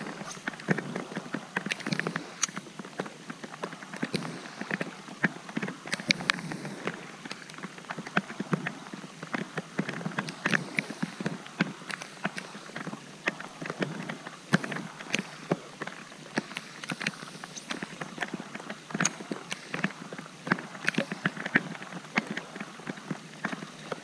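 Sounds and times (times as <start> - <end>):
rain hiss on water: 0.0 - 24.0
raindrops ticking on plastic: 0.0 - 24.0.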